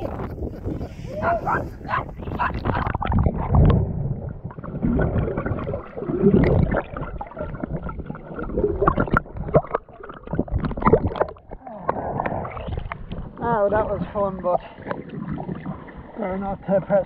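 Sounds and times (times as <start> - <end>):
clicks and knocks underwater: 0.0 - 0.9, 2.0 - 16.0
underwater bubbling and gurgling: 0.0 - 1.1, 1.8 - 17.0.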